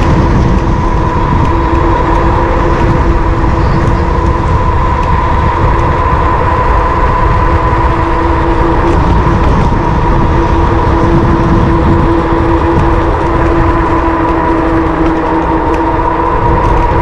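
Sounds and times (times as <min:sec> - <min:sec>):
electric motor whine: 0:00.0 - 0:17.0
wind rushing over microphone: 0:00.0 - 0:17.0.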